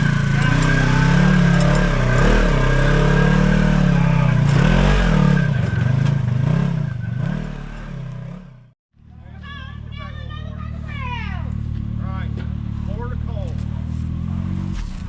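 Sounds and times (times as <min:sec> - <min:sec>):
utility vehicle engine revving: 0:00.0 - 0:08.8, 0:10.0 - 0:15.0.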